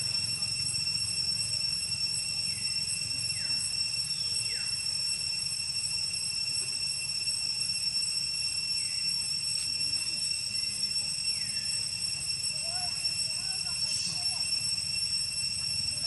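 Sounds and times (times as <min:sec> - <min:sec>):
high-pitched drone: 0:00.0 - 0:16.0.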